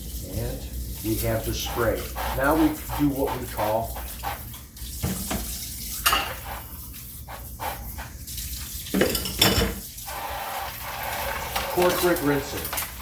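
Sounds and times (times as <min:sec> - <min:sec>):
sink sprayer spraying water: 0:00.0 - 0:13.0.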